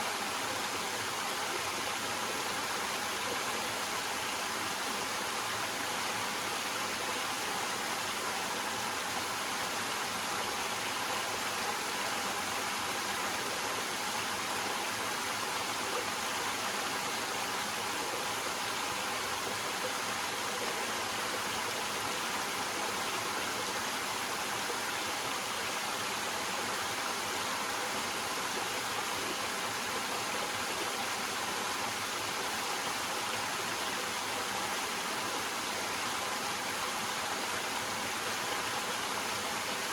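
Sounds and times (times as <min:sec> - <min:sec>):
small waterfall splashing over rocks: 0:00.0 - 0:39.9.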